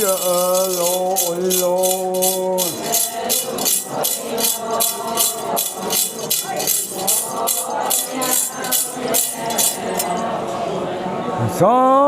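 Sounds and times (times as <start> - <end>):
metal jingles shaken rhythmically: 0.0 - 10.3
faint murmur of voices: 0.0 - 12.0.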